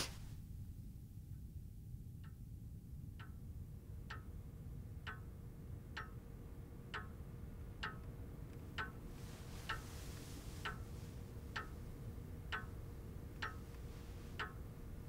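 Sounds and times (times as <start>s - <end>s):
low steady rumble: 0.0s - 15.0s
soft hiss: 0.0s - 15.0s
clock ticking: 2.2s - 15.0s.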